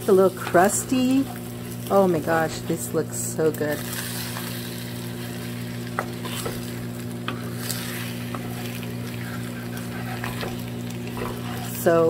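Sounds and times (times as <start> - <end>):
food sizzling in a pan: 0.0 - 12.0
steady low hum: 0.0 - 12.0.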